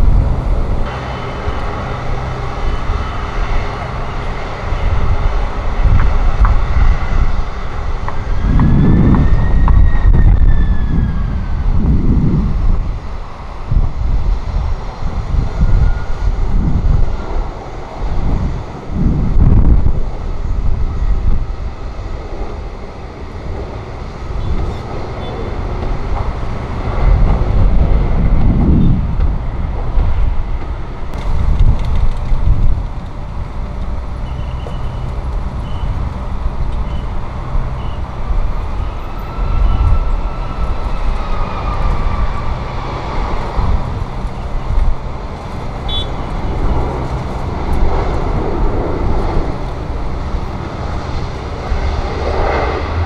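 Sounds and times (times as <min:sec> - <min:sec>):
jet airliner rolling on runway: 0:00.0 - 0:53.0
jet engine whine: 0:00.0 - 0:53.0
wind rumbling on microphone: 0:00.0 - 0:53.0.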